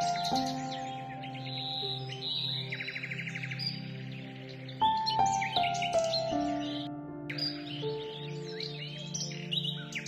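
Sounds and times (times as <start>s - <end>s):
soft relaxation music: 0.0s - 10.0s
songbirds chirping: 0.0s - 10.0s.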